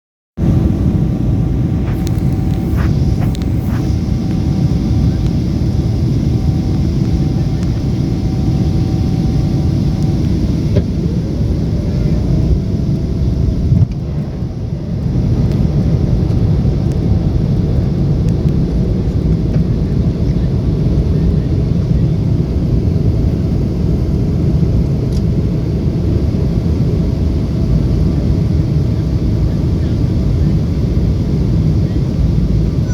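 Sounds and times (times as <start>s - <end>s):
jet engine rumble and rushing air: 0.4s - 32.9s.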